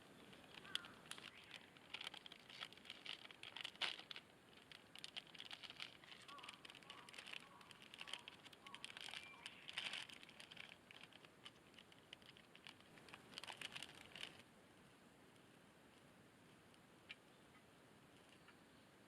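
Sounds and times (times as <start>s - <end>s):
faint light clicks and crackles: 0.2s - 14.5s, 15.3s - 18.6s.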